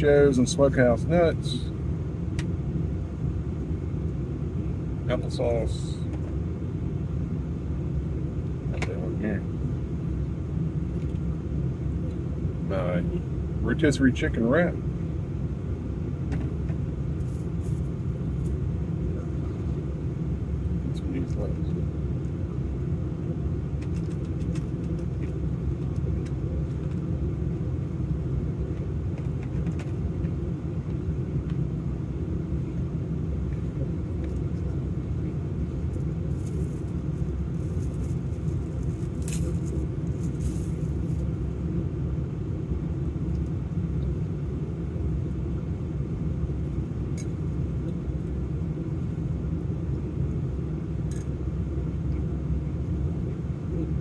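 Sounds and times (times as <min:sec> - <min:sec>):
vehicle idling rumble: 0:00.0 - 0:54.0.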